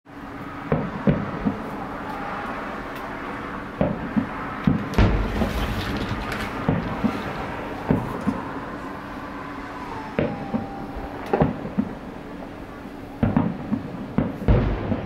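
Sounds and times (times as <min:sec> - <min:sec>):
fireworks bursting: 0:00.2 - 0:15.0.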